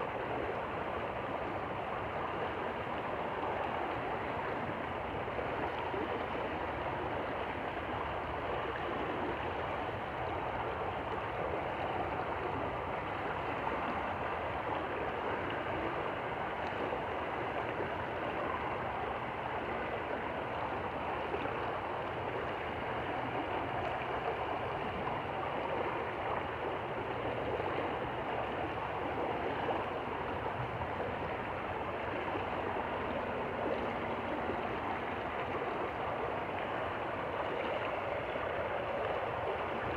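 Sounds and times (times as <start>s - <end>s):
stream flowing and gurgling: 0.0s - 39.9s.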